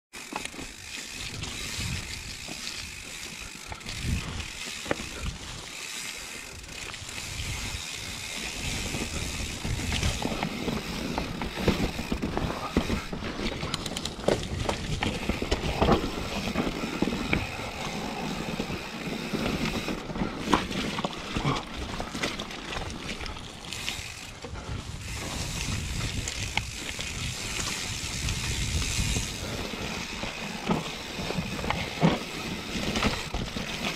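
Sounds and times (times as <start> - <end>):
freehub ratchet clicking: 0.1 - 20.6, 23.6 - 33.9
bike chain and frame rattling: 0.1 - 33.9
bike tyres rushing over dirt: 0.1 - 33.9.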